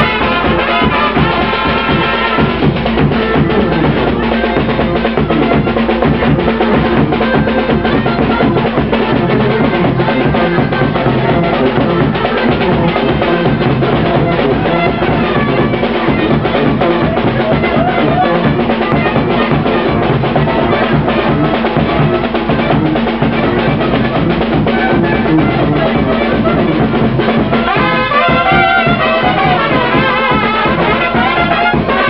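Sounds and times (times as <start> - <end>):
bass drum and cymbal beat: 0.0 - 32.0
brass band playing: 0.0 - 32.0.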